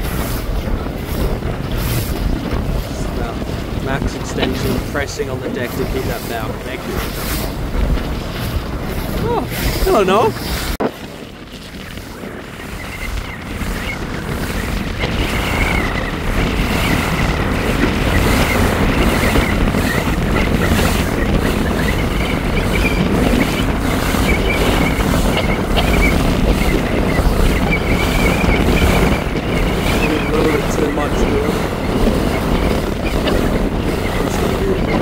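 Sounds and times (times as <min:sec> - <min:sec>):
rushing water from boat: 0:00.0 - 0:35.0
wind buffeting microphone: 0:00.0 - 0:35.0.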